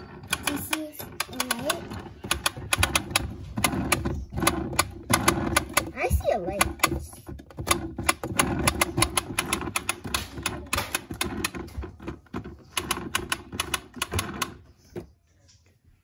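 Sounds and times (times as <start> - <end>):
toy steering wheel clicking: 0.0 - 15.3.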